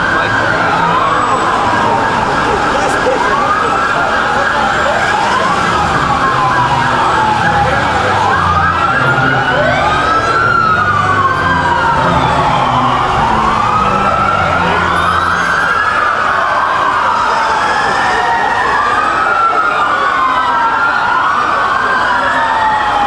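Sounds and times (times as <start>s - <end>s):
sirens wailing: 0.0s - 23.0s.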